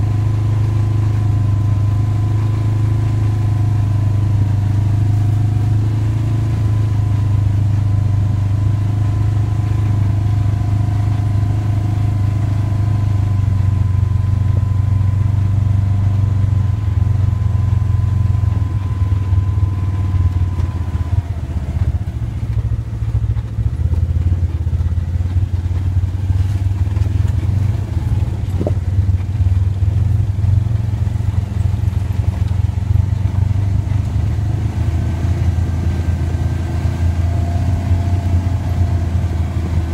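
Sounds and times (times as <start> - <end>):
utv engine drone: 0.0 - 39.9.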